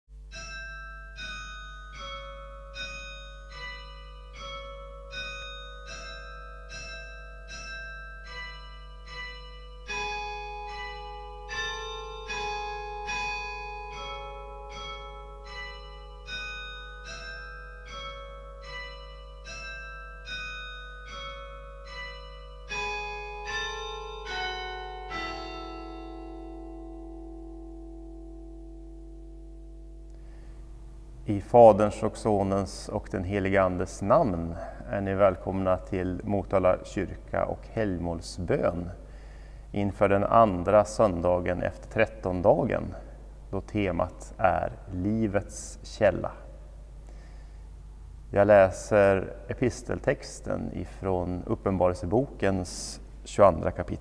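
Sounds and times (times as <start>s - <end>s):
slow melody of ringing notes: 0.1s - 54.0s
steady low hum: 0.1s - 54.0s.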